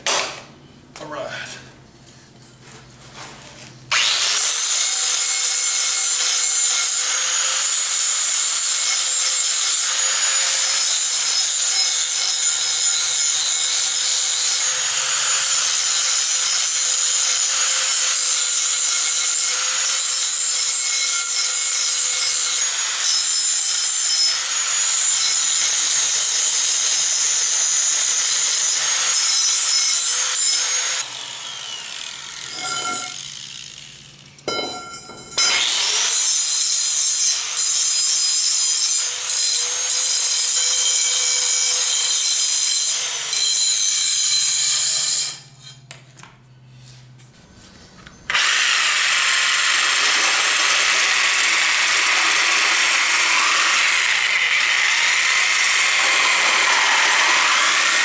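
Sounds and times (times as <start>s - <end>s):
angle grinder grinding steel: 3.9s - 45.8s, 48.3s - 58.0s.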